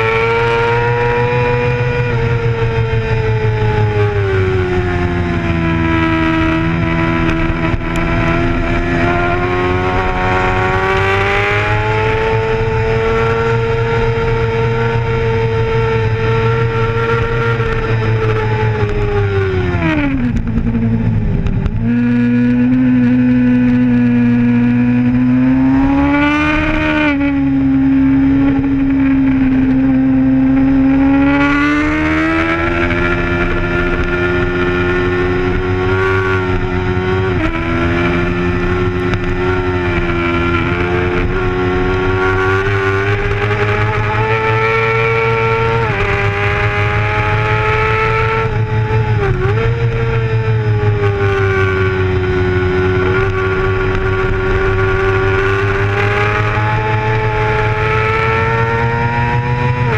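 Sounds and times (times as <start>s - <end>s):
sport bike engine running hard: 0.0s - 59.9s.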